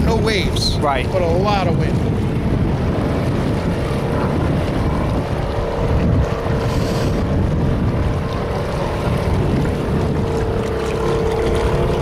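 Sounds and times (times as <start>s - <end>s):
boat motor running: 0.0s - 12.0s
wind rumbling on microphone: 0.0s - 12.0s.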